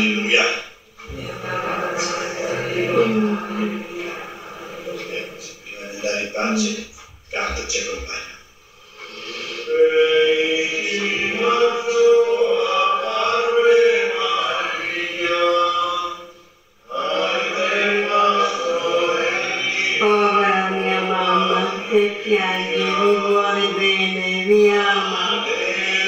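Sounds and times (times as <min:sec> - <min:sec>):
group singing a hymn: 0:00.0 - 0:06.8, 0:08.7 - 0:26.0.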